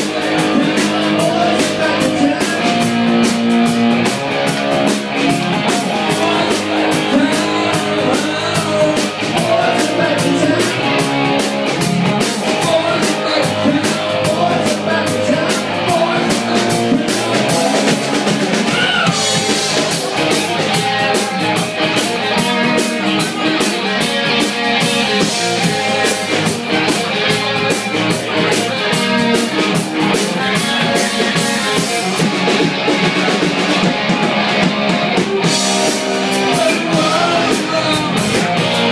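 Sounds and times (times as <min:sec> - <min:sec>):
drum kit beat: 0:00.0 - 0:38.9
electric guitars: 0:00.0 - 0:38.9.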